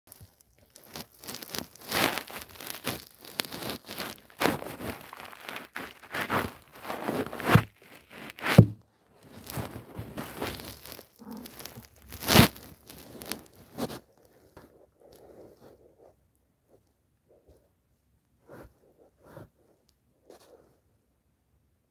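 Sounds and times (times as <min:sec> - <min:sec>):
rustling and scraping: 0:00.1 - 0:21.0.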